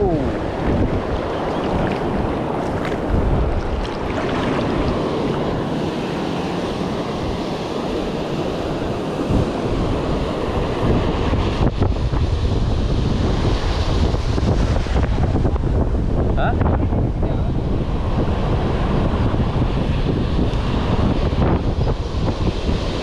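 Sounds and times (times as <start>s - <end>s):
ocean surf breaking: 0.0s - 23.0s
wind buffeting the microphone: 0.0s - 23.0s.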